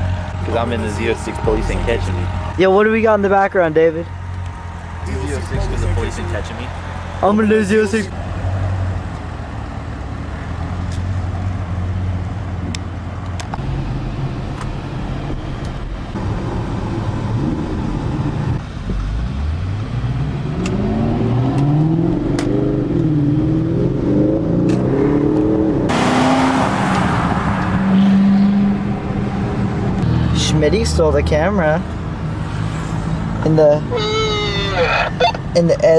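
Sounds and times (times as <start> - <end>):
car engine accelerating: 0.0 - 31.0, 31.6 - 35.9.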